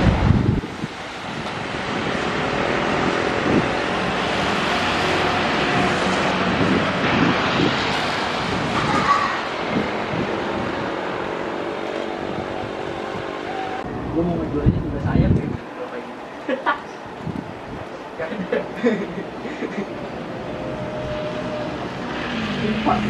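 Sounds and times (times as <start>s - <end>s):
jet engines roaring: 0.0s - 16.4s, 19.2s - 23.0s.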